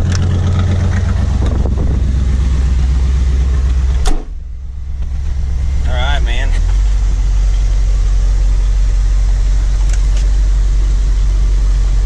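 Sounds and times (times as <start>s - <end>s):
vee eight engine running: 0.0s - 12.0s.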